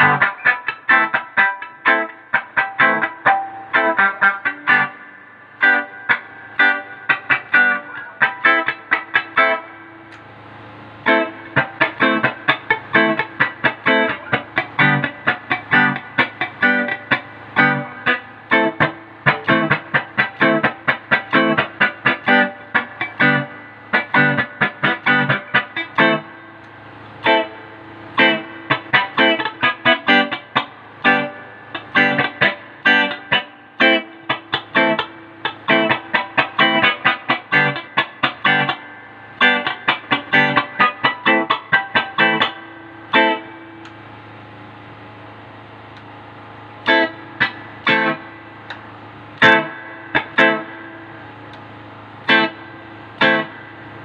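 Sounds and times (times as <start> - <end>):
amp hum: 0.0 - 54.0
electric guitar notes and chords: 0.0 - 54.0.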